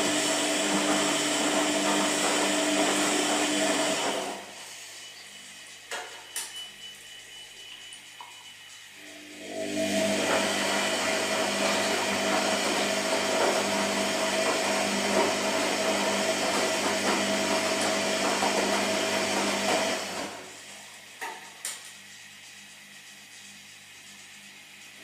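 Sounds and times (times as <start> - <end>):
washing machine whirring: 0.0 - 25.0.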